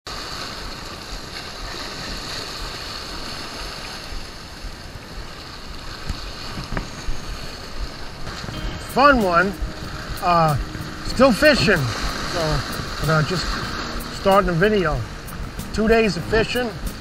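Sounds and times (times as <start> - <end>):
surf washing against rocks: 0.1 - 17.0
wind rumbling on microphone: 0.1 - 17.0.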